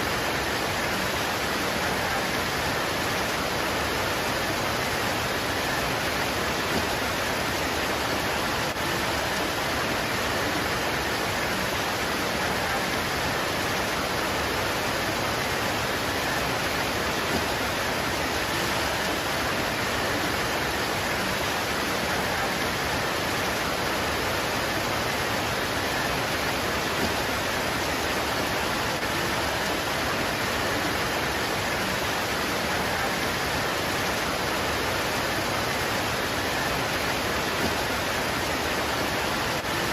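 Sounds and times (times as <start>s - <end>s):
rain pouring on leaves: 0.0s - 39.9s.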